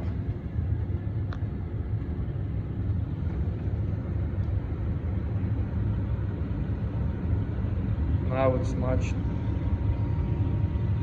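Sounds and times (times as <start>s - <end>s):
air handler blower running: 0.0s - 11.0s.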